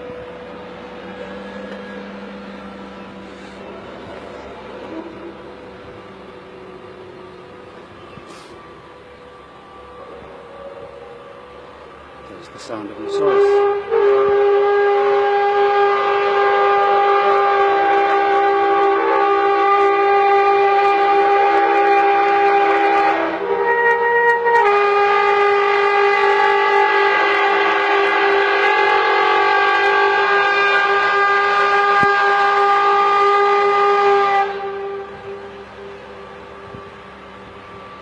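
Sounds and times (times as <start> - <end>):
bulldozer pitched tone: 0.0 - 38.0.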